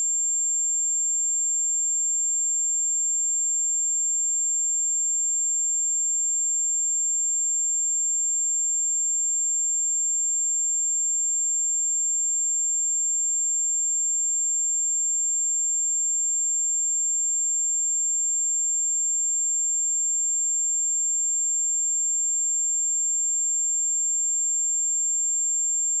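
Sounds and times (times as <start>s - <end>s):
high-pitched sine test tone: 0.0s - 26.0s.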